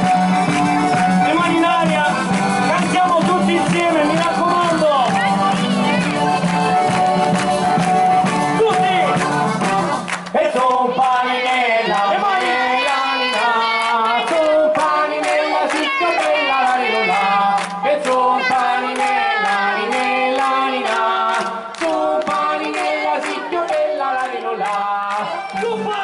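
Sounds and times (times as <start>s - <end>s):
crowd clapping in time: 0.0s - 26.0s
people singing folk song: 0.0s - 26.0s.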